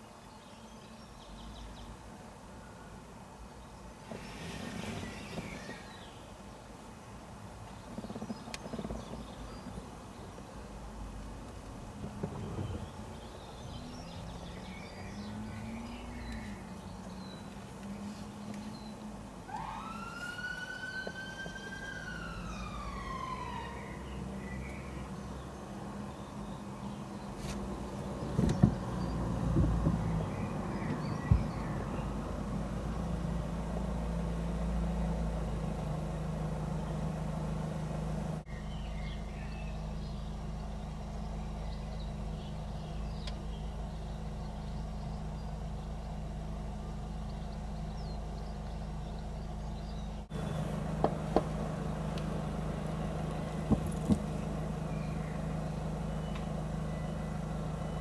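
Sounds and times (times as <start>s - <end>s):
vehicles idling: 1.2s - 58.0s.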